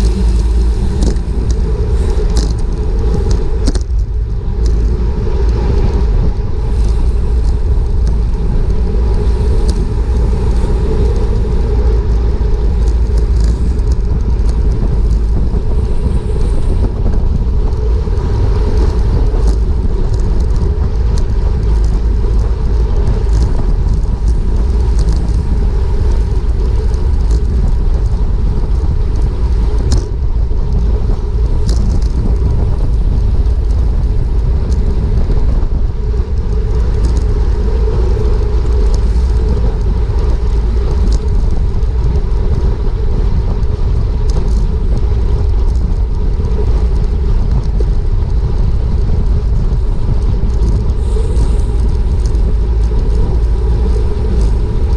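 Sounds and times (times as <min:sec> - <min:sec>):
bicycle tyre and drivetrain noise: 0:00.0 - 0:54.9
wind rushing over microphone: 0:00.0 - 0:54.9.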